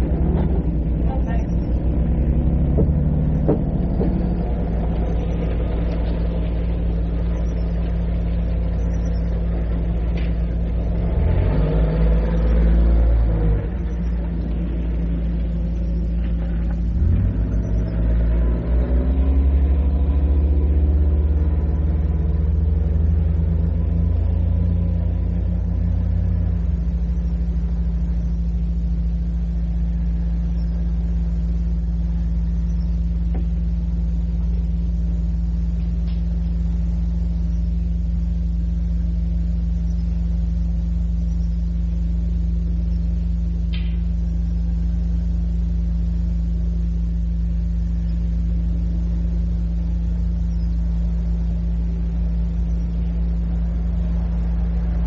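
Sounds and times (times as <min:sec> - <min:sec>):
steady low hum: 0:00.0 - 0:55.0
vehicle engine accelerating: 0:00.0 - 0:55.0.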